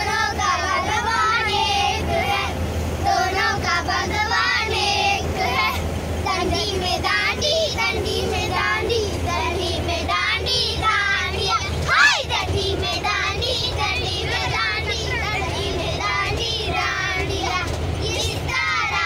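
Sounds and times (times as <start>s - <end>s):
low hum of bus engine: 0.0s - 19.0s.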